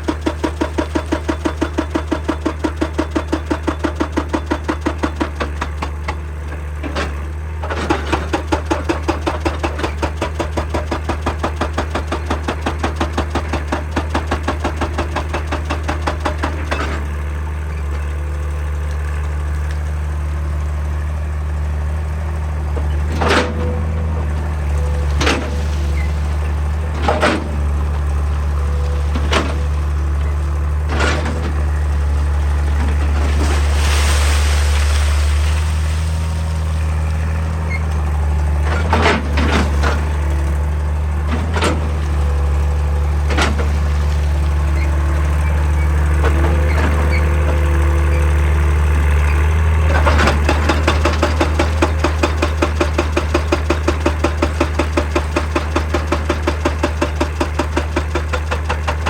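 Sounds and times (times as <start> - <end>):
diesel engine drone: 0.0 - 59.0
hydraulic rock breaker hammering: 0.0 - 59.0.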